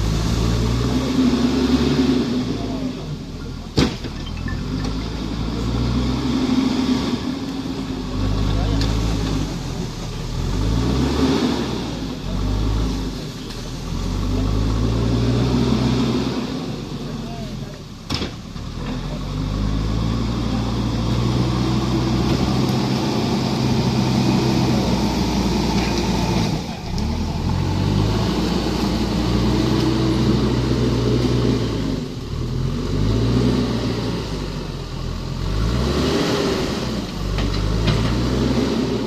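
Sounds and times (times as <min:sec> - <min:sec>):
heavy machine engine revving: 0:00.0 - 0:39.0.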